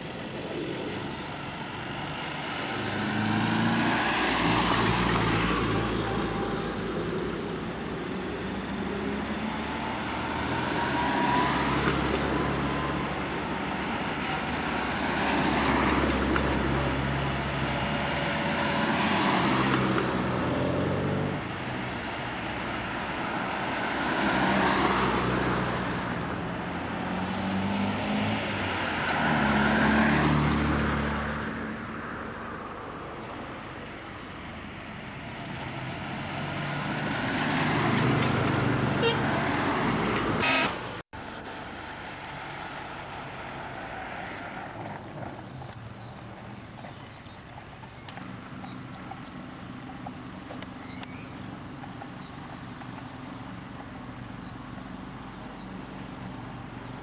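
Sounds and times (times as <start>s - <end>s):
cars driving past: 0.0s - 57.0s.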